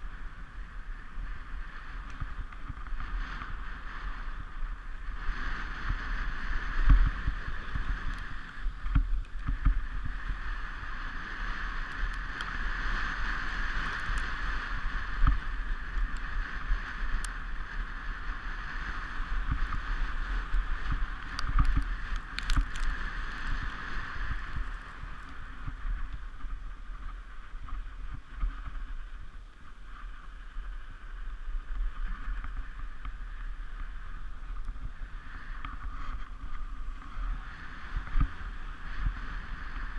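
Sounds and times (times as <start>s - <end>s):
sled runners hissing on snow: 0.0s - 39.9s
wind buffeting microphone: 0.0s - 39.9s.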